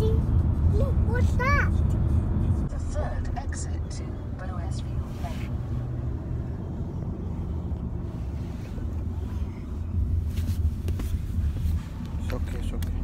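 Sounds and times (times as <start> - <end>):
car interior engine and road rumble: 0.0 - 13.0.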